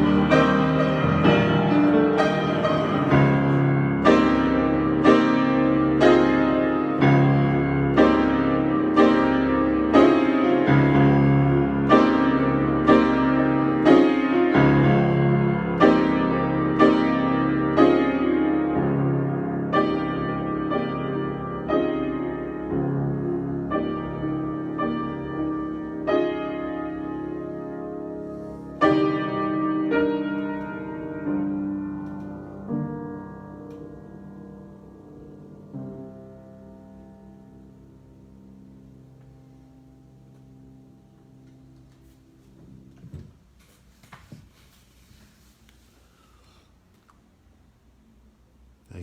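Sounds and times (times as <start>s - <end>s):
piano chords ringing: 0.0s - 43.6s.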